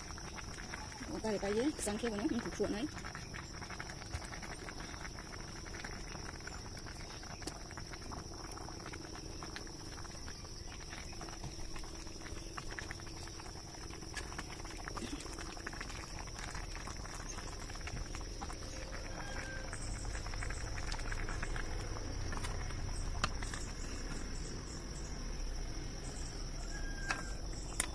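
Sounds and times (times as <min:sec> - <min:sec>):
water simmering in a wok: 0:00.0 - 0:27.9
wood fire crackling: 0:00.0 - 0:27.9.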